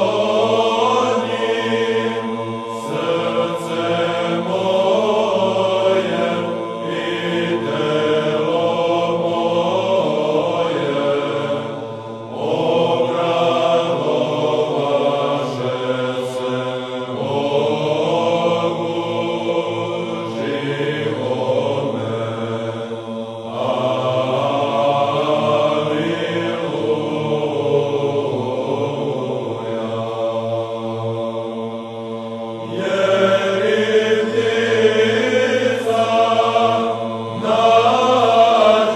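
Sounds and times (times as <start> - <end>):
voices singing slow chant: 0.0 - 38.9.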